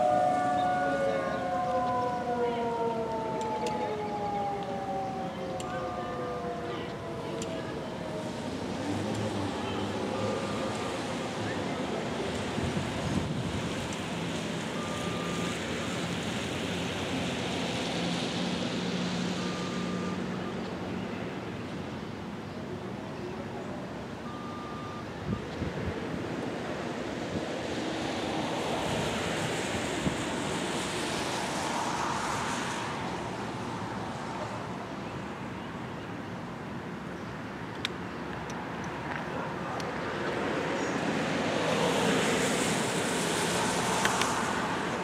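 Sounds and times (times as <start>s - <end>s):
distant traffic: 0.0s - 45.0s
wind: 0.0s - 45.0s.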